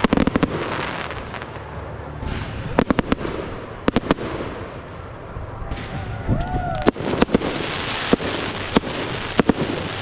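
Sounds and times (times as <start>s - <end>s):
fireworks cracking: 0.0s - 5.1s, 5.7s - 10.0s.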